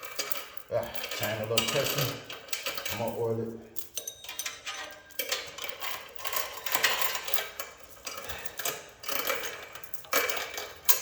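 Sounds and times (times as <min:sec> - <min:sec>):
metal roller chain clattering: 0:00.0 - 0:11.0.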